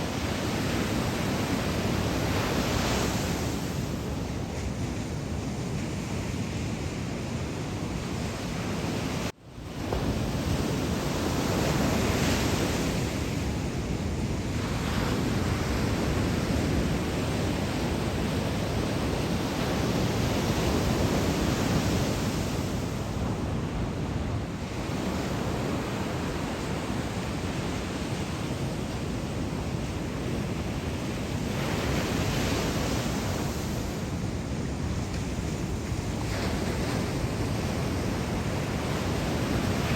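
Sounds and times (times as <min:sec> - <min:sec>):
ocean waves breaking: 0:00.0 - 0:39.9
wind: 0:00.0 - 0:39.9.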